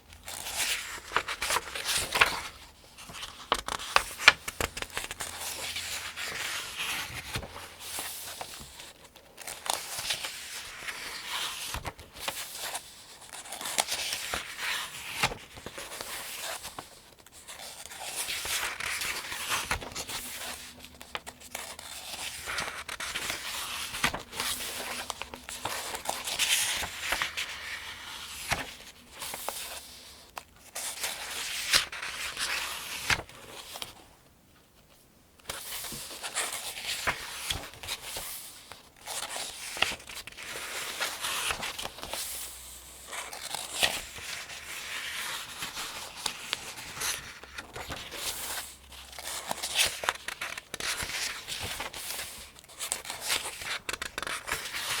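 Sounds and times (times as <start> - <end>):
paper pages being turned: 0.2 - 34.0, 35.4 - 55.0.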